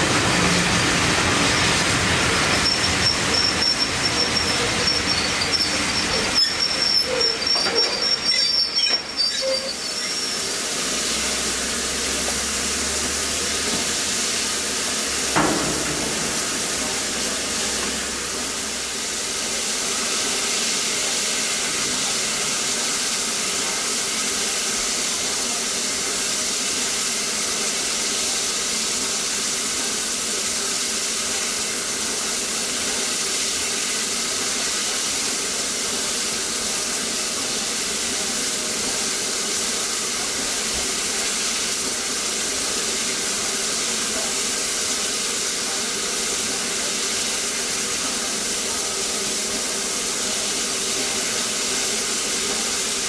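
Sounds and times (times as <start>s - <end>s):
steam hissing from locomotive: 0.0s - 53.0s.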